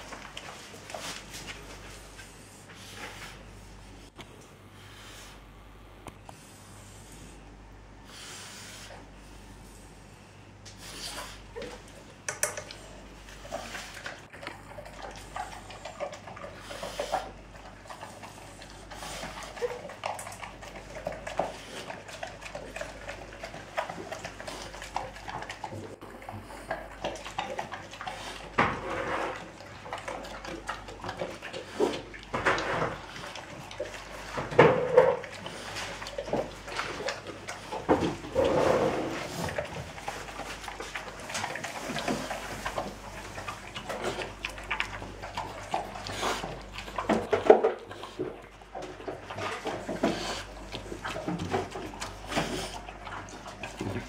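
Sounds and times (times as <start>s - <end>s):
dog chewing and licking: 0.0s - 3.9s, 10.7s - 54.0s.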